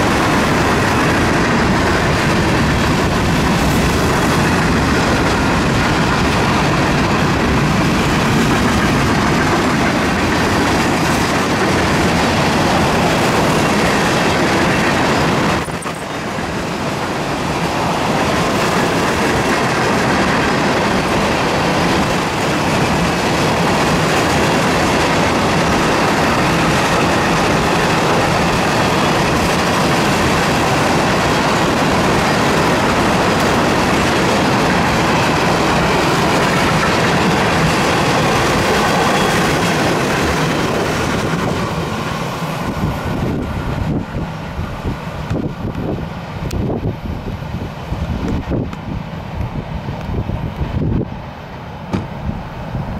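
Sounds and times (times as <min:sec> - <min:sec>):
steel wheels rolling on rails: 0:00.0 - 0:51.4.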